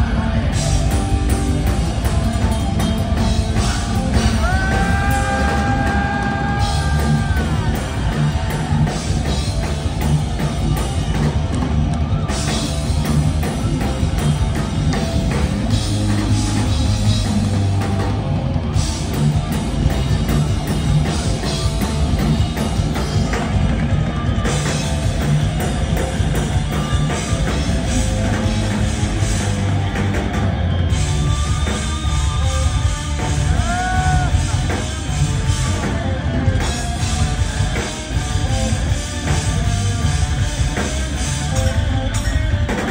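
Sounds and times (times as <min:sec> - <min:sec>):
thrash metal band playing live: 0:00.0 - 0:42.9.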